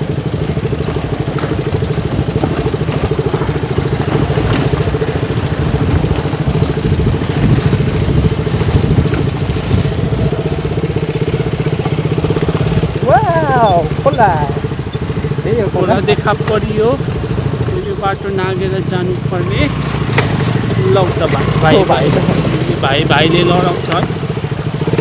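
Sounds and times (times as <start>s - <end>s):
scooter engine running: 0.0s - 25.0s.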